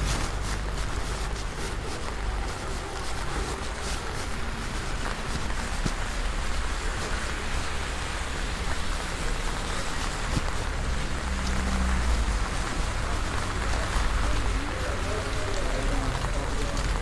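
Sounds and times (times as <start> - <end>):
heavy rain hissing: 0.0 - 17.0
raindrops ticking on umbrella: 0.0 - 17.0.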